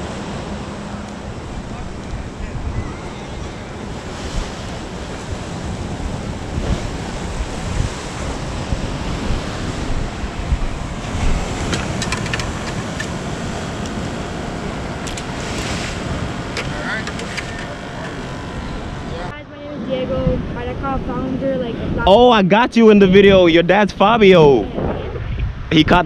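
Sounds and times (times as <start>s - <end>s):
ocean surf: 0.0s - 26.0s
wind buffeting microphone: 0.0s - 26.0s.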